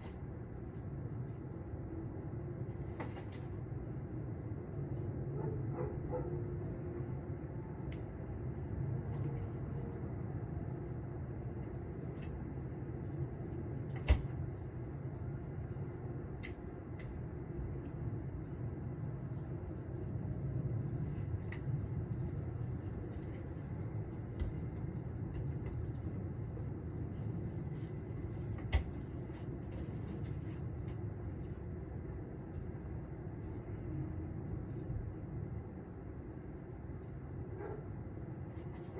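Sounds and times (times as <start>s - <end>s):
distant traffic rumble: 0.0s - 38.9s.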